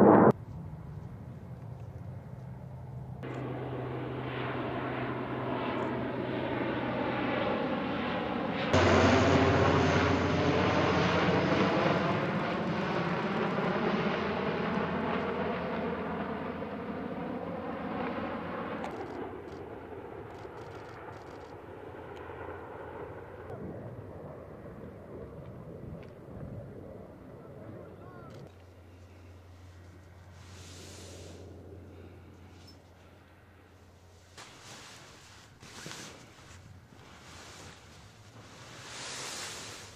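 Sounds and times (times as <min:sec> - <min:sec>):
turboprop plane flying overhead: 0:00.0 - 0:39.9.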